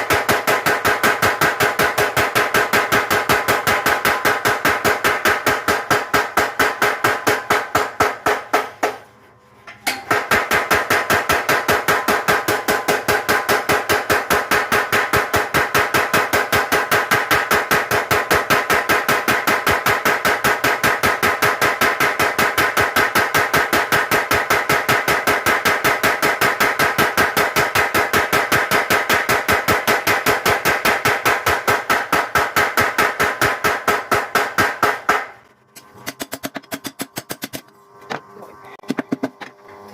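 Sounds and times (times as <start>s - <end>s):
power hammer pounding steel: 0.0s - 9.1s, 9.9s - 35.4s.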